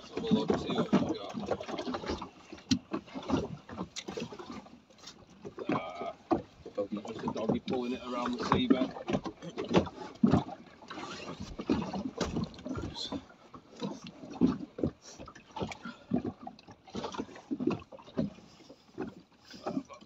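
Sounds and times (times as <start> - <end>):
water slapping against hull: 0.0 - 20.0.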